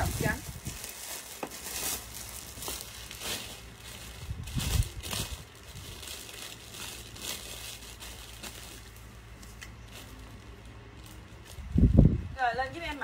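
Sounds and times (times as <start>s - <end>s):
clothes rustling and crinkling: 0.0s - 13.0s.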